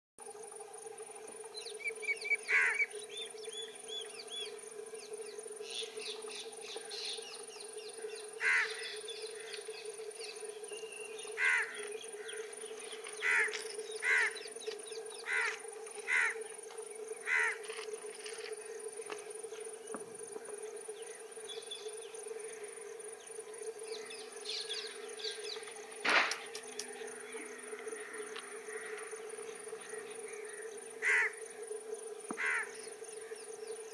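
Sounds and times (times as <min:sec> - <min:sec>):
insects droning and chirring: 0:00.2 - 0:33.9.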